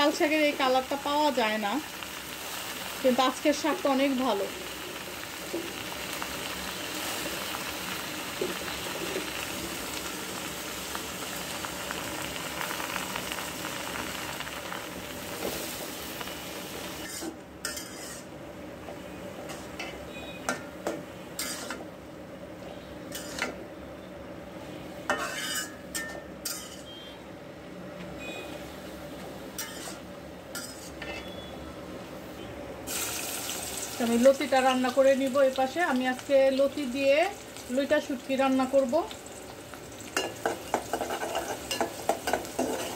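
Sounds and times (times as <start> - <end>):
leaves sizzling in a pan: 0.0 - 23.7, 24.6 - 27.1, 28.4 - 42.9.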